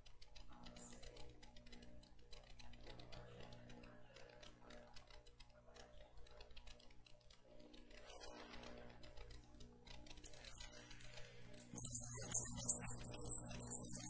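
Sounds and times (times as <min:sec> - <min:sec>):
faint low hum: 0:00.0 - 0:14.0
light irregular clicking: 0:00.0 - 0:14.0.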